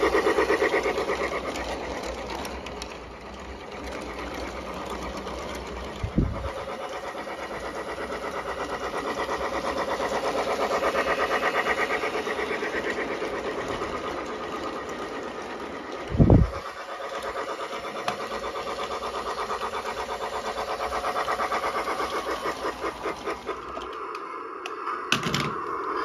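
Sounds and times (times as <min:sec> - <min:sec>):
toy train rhythmic clatter: 0:00.0 - 0:26.0.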